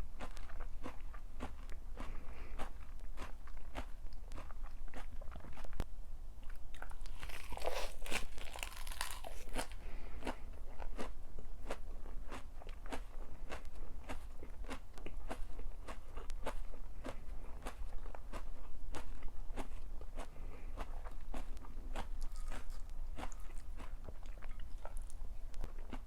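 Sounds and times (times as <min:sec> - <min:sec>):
person chewing crunchy food: 0:00.0 - 0:05.8, 0:06.4 - 0:26.0.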